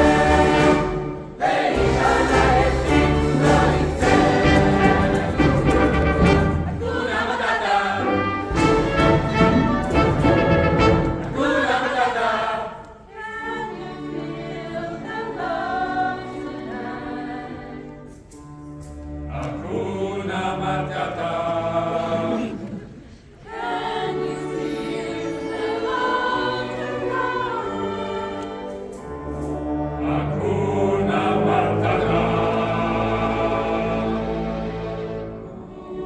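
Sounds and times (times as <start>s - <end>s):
mixed choir singing: 0.0s - 18.2s, 19.2s - 36.0s
orchestral accompaniment: 0.0s - 22.7s, 23.4s - 36.0s.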